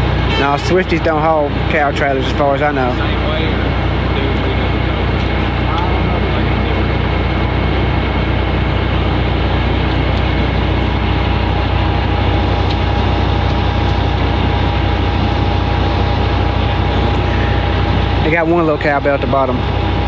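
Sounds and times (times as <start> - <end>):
thin steady whine: 0.0 - 20.0
truck engine running: 0.0 - 20.0.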